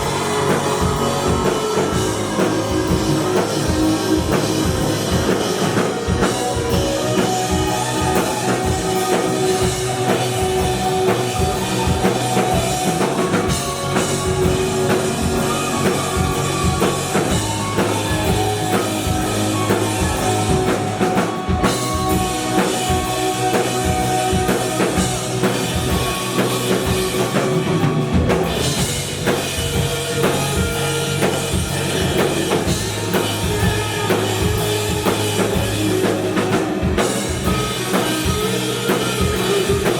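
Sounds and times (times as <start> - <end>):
drum kit beat: 0.0 - 39.9
live rock band music: 0.0 - 39.9.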